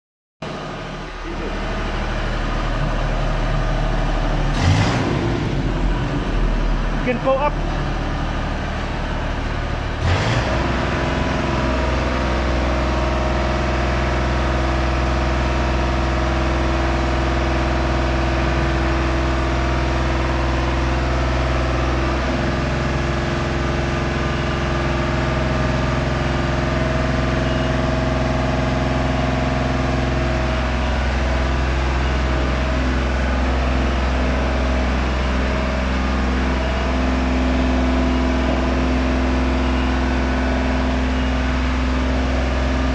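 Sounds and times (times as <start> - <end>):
heavy machinery humming: 0.4 - 42.9.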